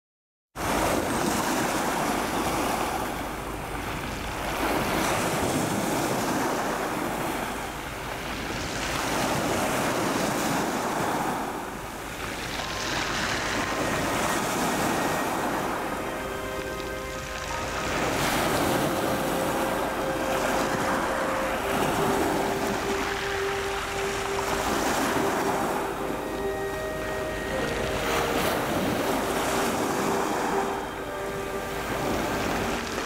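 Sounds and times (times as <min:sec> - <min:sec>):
waves breaking on pebble beach: 0:00.6 - 0:33.0.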